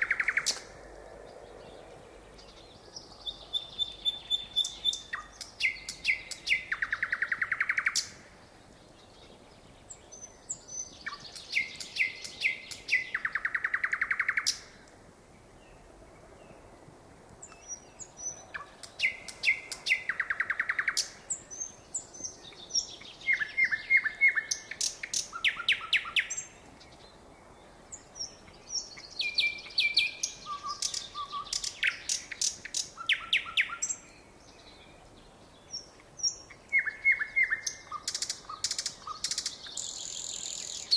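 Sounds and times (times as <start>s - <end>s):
nightingale singing: 0.0s - 14.9s, 17.4s - 40.9s.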